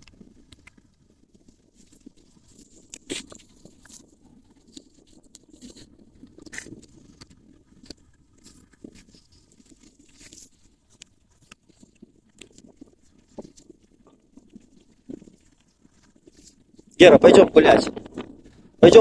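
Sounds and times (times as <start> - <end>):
small clicks and ticks: 0.0 - 17.0.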